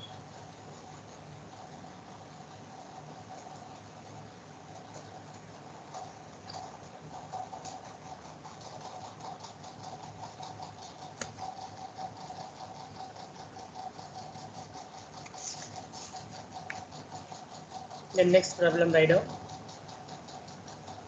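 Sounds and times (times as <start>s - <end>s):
faint regular ticking: 0.0s - 21.0s
steady hum: 0.0s - 21.0s.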